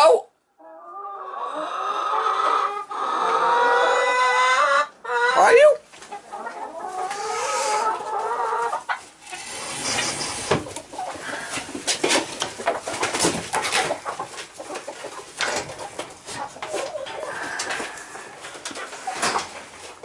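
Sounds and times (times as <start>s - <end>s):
hens clucking: 0.6s - 20.0s.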